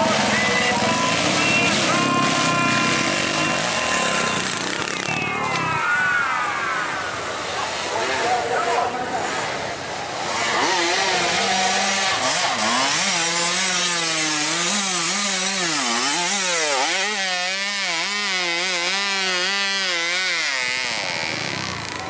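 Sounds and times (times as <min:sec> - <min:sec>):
dirt bike engine revving: 0:00.0 - 0:05.8, 0:09.2 - 0:22.0.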